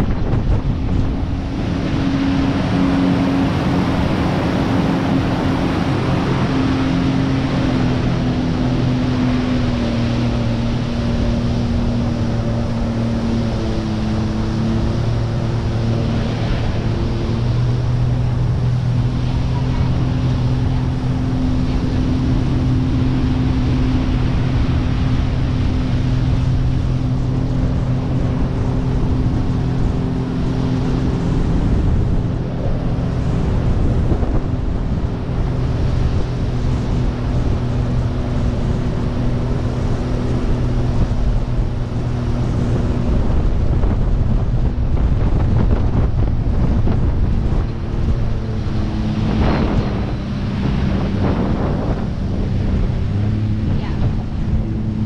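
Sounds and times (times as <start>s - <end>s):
jet ski engine running: 0.0s - 55.0s
rush of wake water: 0.0s - 55.0s
wind buffeting microphone: 0.0s - 55.0s.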